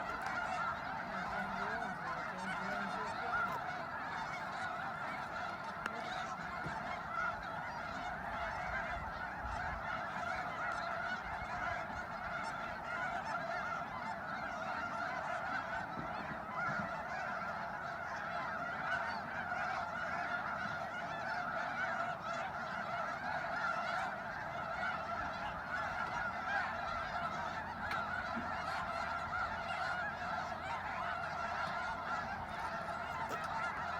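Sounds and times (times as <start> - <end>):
waterfowl flock honking: 0.0 - 33.9.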